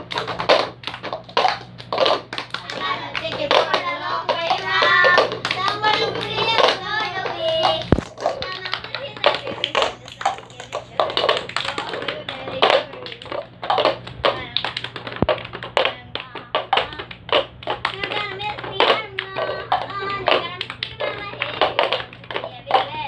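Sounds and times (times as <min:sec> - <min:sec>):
hand claps: 0:00.0 - 0:23.0
plastic cups tapped on wooden floor: 0:00.0 - 0:23.0.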